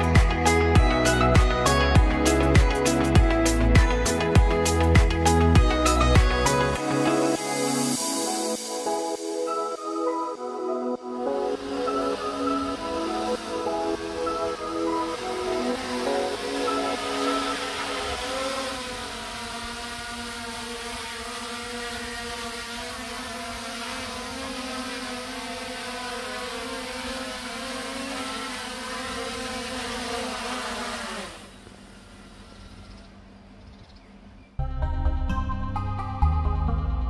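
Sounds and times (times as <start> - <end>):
drone propellers whining: 0.0 - 33.9.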